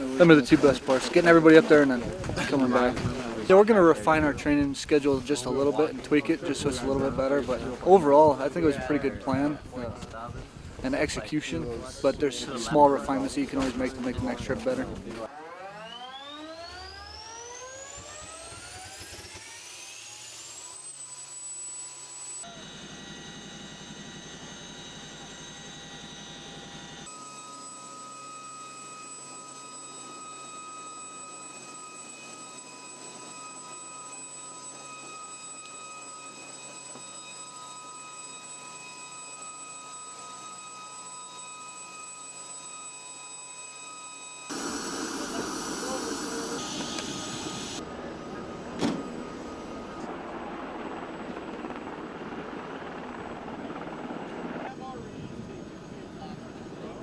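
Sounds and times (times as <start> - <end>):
helicopter engines whining: 0.0 - 43.0, 44.5 - 57.0
helicopter running noise: 0.0 - 43.0, 44.5 - 57.0.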